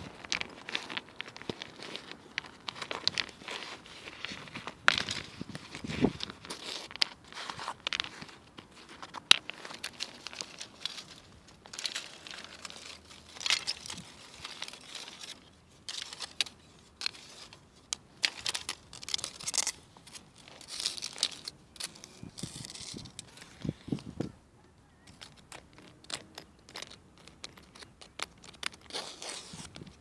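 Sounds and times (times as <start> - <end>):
dry stems crackling and rustling: 0.0 - 30.0.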